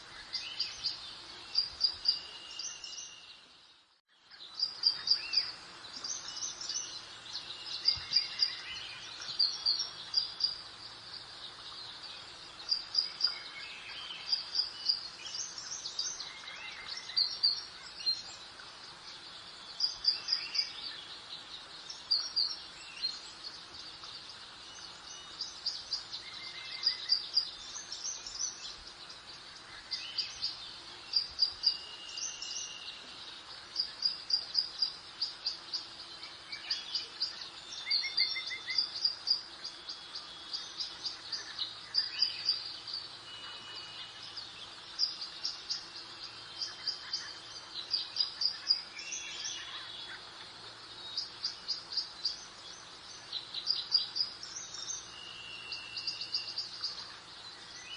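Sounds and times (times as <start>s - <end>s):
small songbirds chirping: 0.0s - 57.9s
soft hiss of breeze: 0.0s - 57.9s.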